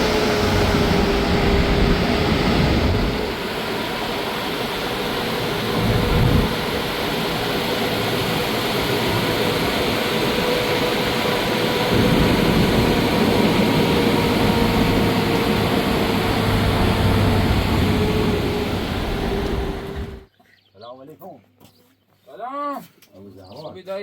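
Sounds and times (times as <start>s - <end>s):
vehicle running with road noise: 0.0s - 20.3s.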